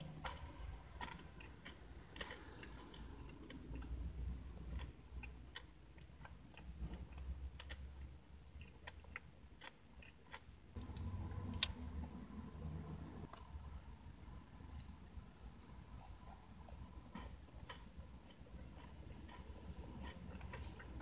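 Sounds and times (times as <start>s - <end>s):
mouth chewing and lip smacks: 0.0s - 12.2s, 14.6s - 21.0s
low steady rumble: 0.0s - 21.0s.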